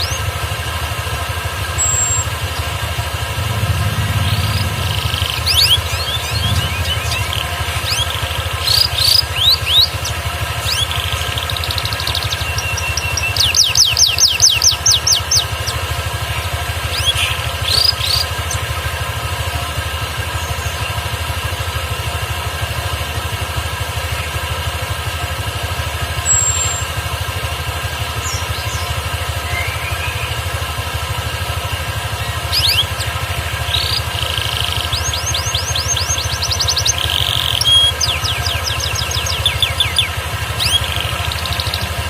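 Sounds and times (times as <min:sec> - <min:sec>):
canary singing: 0:00.0 - 0:19.4, 0:26.1 - 0:42.0
engine-like hum: 0:00.0 - 0:42.0.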